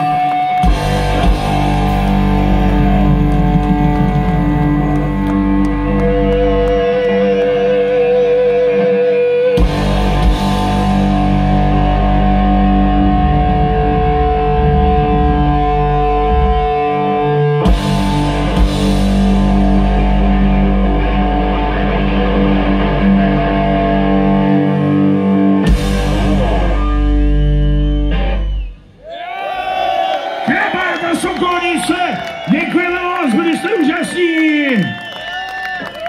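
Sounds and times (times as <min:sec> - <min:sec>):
live rock band: 0:00.0 - 0:29.0.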